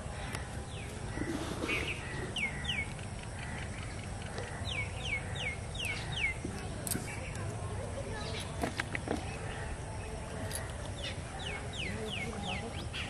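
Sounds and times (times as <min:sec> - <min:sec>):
bird chirping: 0:00.1 - 0:13.0.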